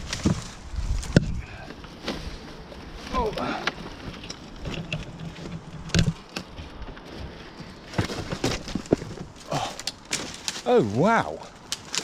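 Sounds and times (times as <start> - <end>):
person clambering through undergrowth: 0.0 - 12.0.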